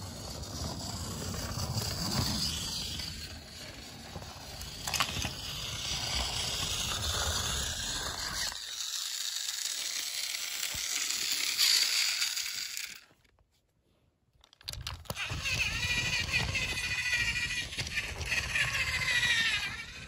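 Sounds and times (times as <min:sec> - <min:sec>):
toy train motor running: 0:00.0 - 0:13.2, 0:14.6 - 0:20.0
wheels rumbling on plastic track: 0:00.0 - 0:13.2, 0:14.5 - 0:20.0.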